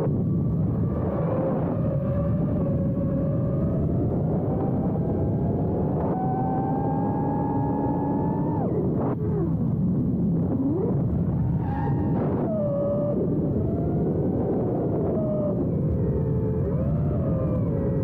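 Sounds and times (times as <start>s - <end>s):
drone motors whining: 0.0s - 18.0s
rushing wind: 0.0s - 18.0s.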